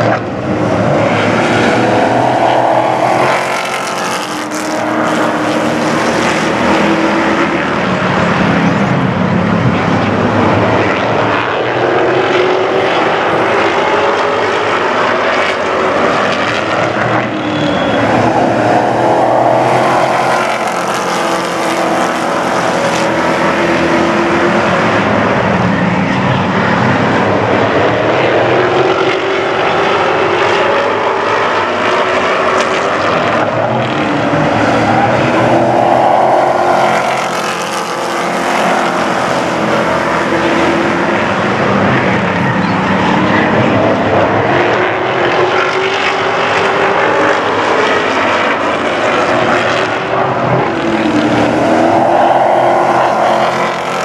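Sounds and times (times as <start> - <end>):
race truck engines passing: 0.0 - 54.0.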